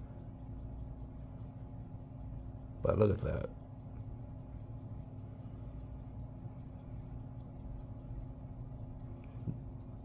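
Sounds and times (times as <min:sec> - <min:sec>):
low steady hum: 0:00.0 - 0:10.0
pocket watch ticking: 0:00.0 - 0:10.0.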